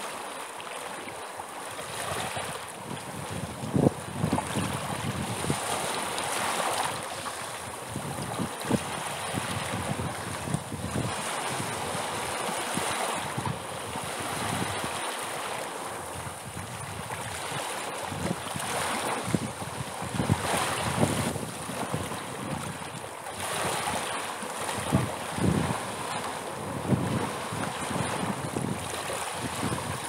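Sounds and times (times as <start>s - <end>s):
sea waves washing in: 0.0s - 30.0s.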